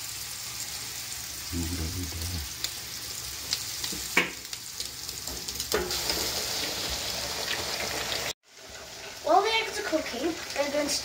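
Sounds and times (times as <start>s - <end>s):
oil sizzling in deep fryer: 0.0s - 11.0s.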